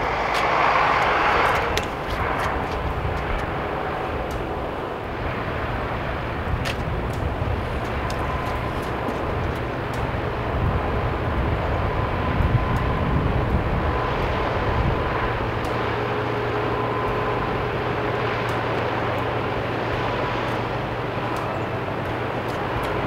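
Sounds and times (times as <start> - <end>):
distant mechanical rumble: 0.0 - 23.0.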